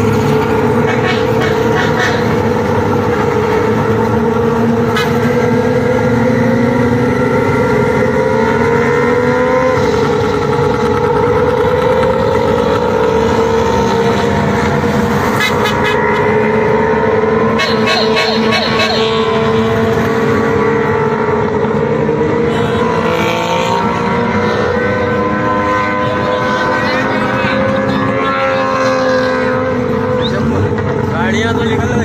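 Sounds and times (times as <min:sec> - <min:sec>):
two-stroke engines buzzing: 0:00.0 - 0:32.0.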